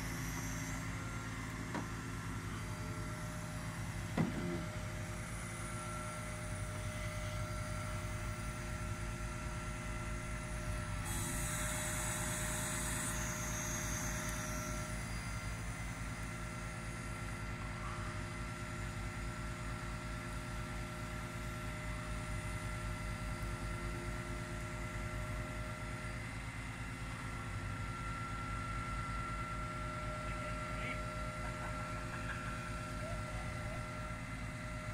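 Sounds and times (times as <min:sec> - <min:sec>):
hydraulic whine: 0:00.0 - 0:34.9
truck engine running: 0:00.0 - 0:34.9.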